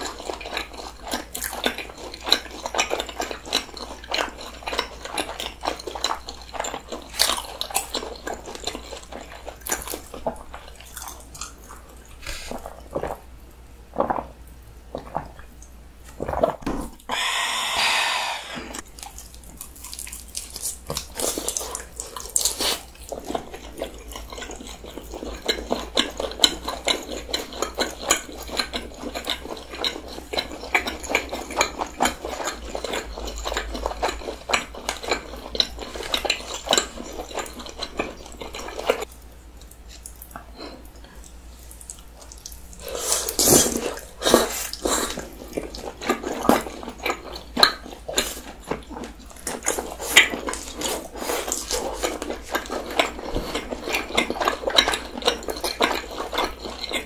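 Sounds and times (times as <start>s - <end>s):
people chewing snack food: 0.0s - 13.3s, 13.9s - 57.0s.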